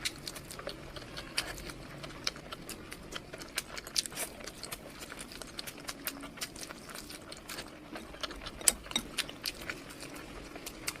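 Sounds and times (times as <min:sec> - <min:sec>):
chewing with wet mouth clicks: 0:00.0 - 0:11.0.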